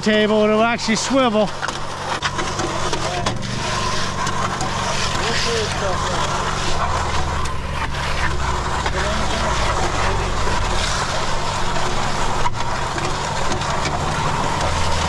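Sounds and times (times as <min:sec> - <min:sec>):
machine engine running: 0:00.0 - 0:15.0.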